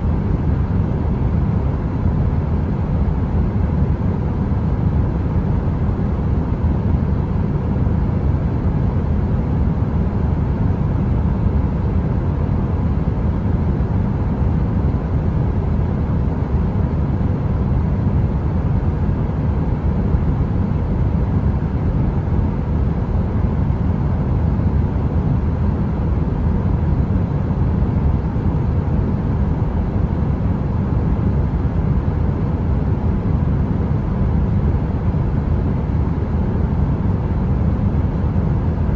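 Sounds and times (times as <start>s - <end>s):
heater white noise: 0.0s - 38.9s.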